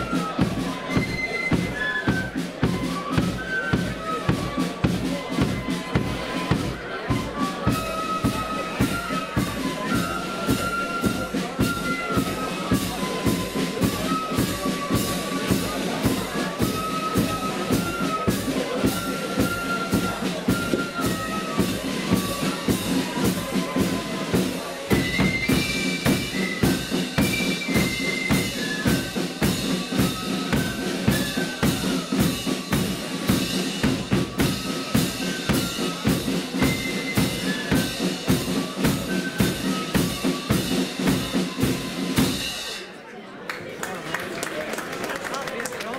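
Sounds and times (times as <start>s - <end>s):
flute band playing a march: 0.0s - 42.8s.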